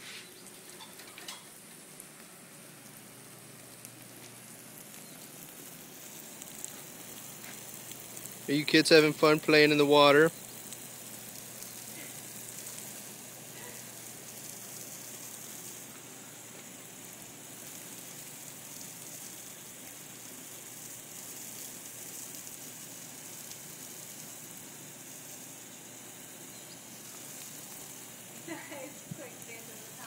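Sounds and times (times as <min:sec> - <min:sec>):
lawn sprinkler hissing: 0:00.0 - 0:30.0.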